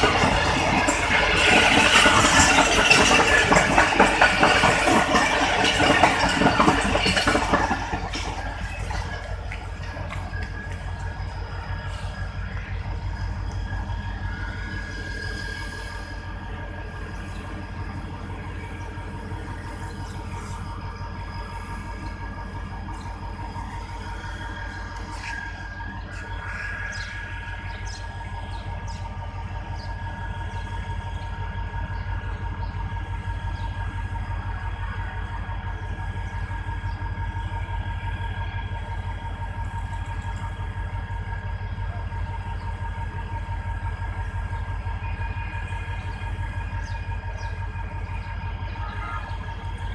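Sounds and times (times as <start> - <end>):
diesel locomotive engine rumbling: 0.0 - 49.9
steady whining tones: 0.0 - 49.9.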